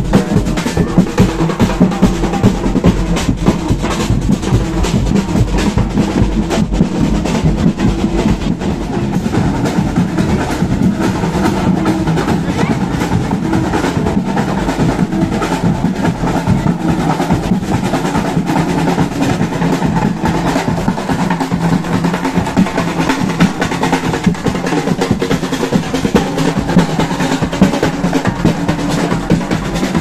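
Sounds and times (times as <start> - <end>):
barrel drums beating: 0.0 - 30.0
snare drum rolls: 0.0 - 30.0.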